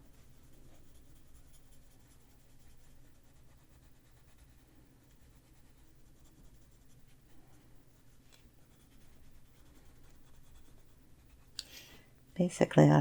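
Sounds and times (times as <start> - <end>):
coloured pencil scratching on paper: 0.0 - 11.6.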